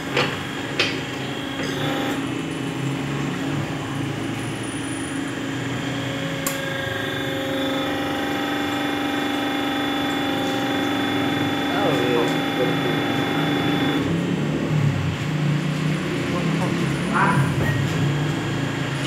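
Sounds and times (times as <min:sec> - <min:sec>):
injection moulding machine hum: 0:00.0 - 0:19.0.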